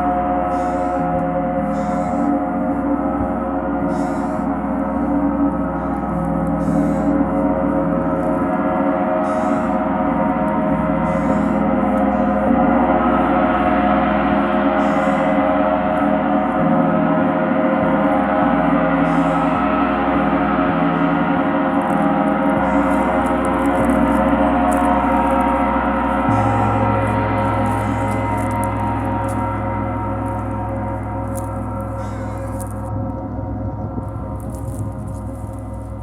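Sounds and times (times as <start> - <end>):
large gong ringing: 0.0 - 36.0.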